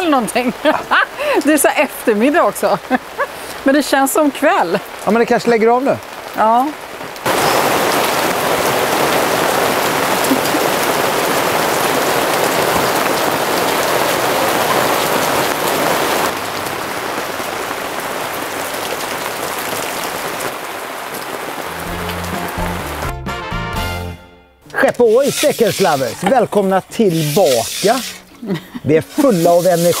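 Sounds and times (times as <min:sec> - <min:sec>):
heavy rain pouring: 0:00.0 - 0:23.2, 0:24.7 - 0:30.0.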